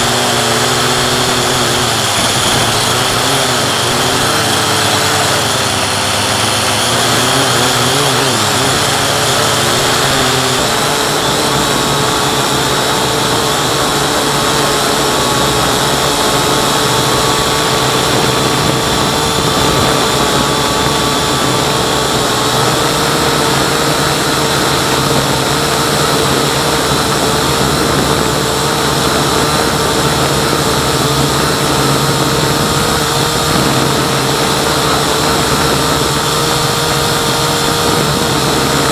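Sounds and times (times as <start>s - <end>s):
drone motors whining: 0.0s - 38.9s.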